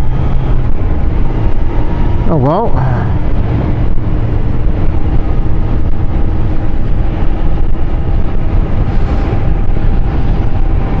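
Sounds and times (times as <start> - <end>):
loud wind rush: 0.0 - 11.0
motorcycle engine hum: 0.0 - 11.0.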